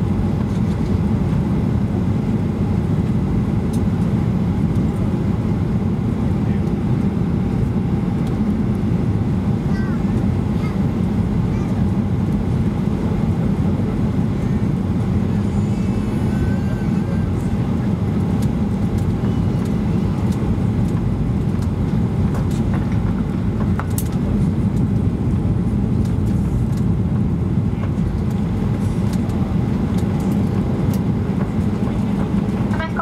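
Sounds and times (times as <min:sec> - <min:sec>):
aircraft cabin roar: 0:00.0 - 0:33.0.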